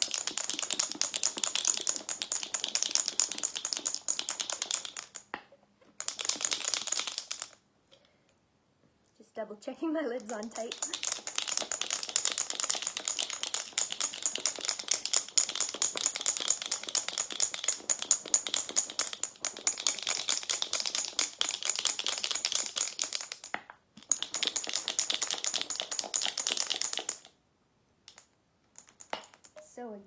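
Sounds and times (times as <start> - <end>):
marbles rattling in a shaken jar: 0.0 - 5.3, 6.0 - 7.6, 10.1 - 27.4, 28.1 - 29.8.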